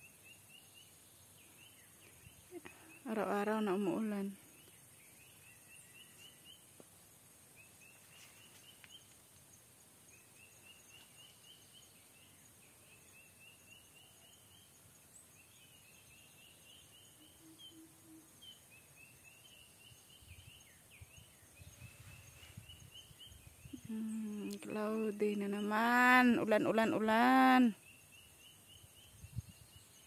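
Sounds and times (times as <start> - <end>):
faint bird song: 0.0 - 30.0.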